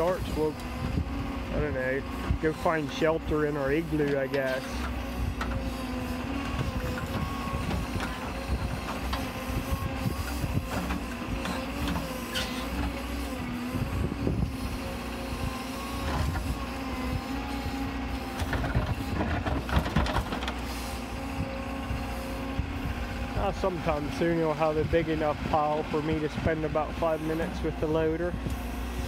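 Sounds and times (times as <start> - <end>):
diesel excavator engine: 0.0 - 29.0
hydraulic whine: 0.0 - 29.0.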